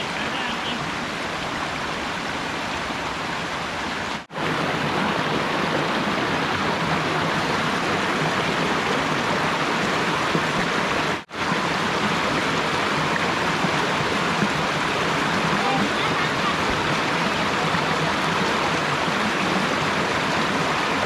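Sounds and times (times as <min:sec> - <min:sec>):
rushing stream water: 0:00.0 - 0:21.0.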